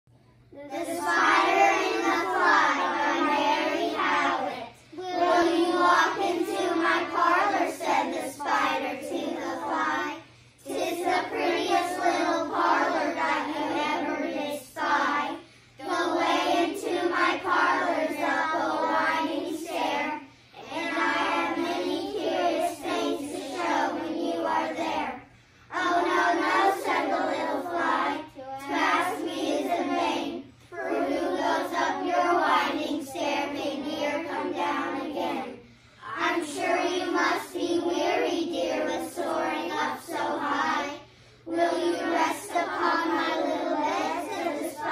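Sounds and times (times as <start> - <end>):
children reciting in unison: 0.6 - 44.9.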